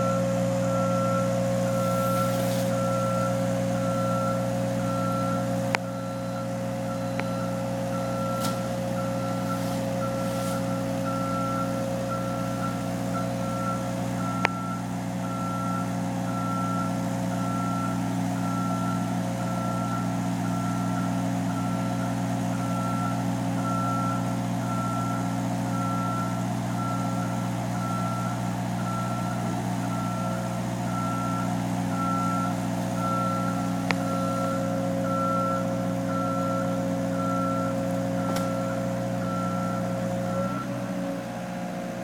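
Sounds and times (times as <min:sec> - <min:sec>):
reversing alarm beeping: 0:00.0 - 0:41.4
heavy vehicle engine running: 0:00.0 - 0:42.0.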